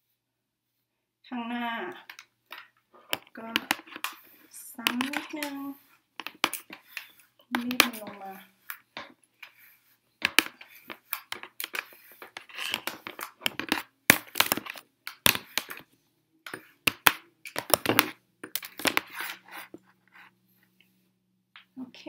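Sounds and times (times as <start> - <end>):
hair rustling: 1.7 - 21.0.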